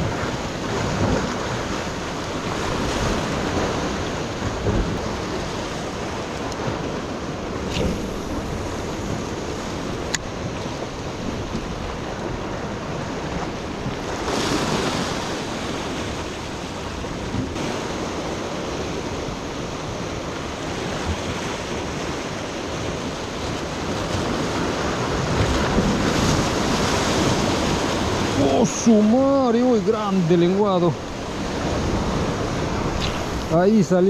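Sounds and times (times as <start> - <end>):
ocean surf washing against rocks: 0.0 - 34.0
wind buffeting microphone: 0.0 - 34.0.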